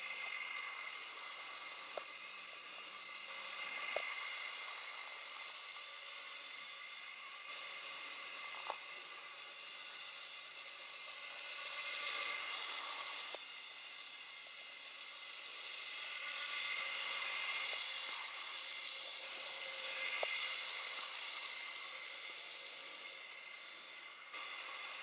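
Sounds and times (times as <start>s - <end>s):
model train motor whirring: 0.0s - 25.0s.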